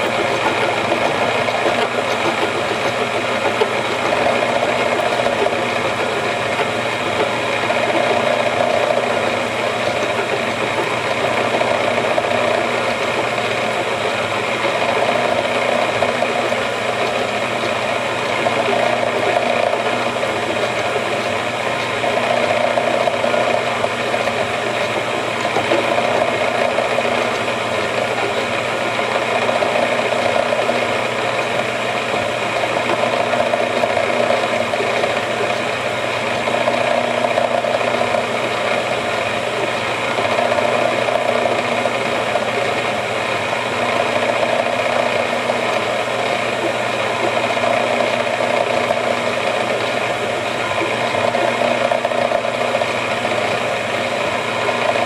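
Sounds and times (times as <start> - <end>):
machine drone with metal cutting: 0.0 - 55.0.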